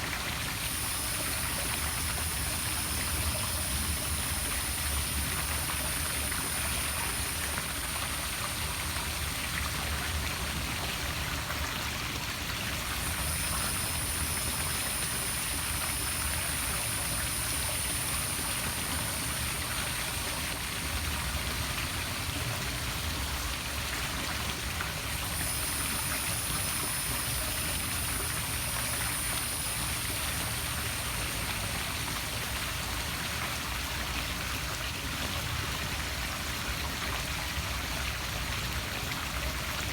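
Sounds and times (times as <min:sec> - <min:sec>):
waterfall splashing into pool: 0:00.0 - 0:37.4.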